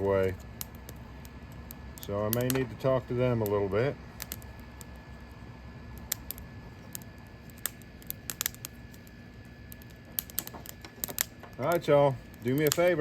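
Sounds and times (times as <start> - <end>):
low steady hum: 0.0 - 13.0
wood fire crackling: 0.0 - 13.0.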